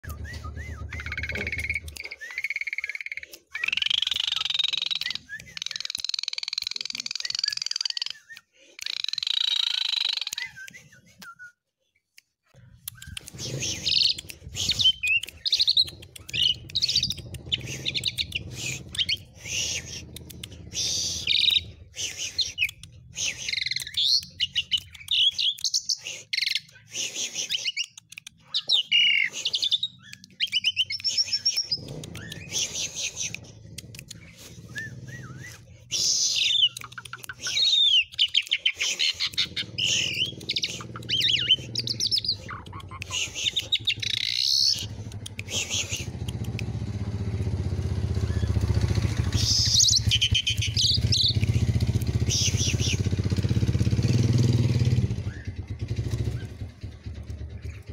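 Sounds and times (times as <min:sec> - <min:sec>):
starling singing: 0:00.1 - 0:10.6, 0:12.9 - 0:57.9.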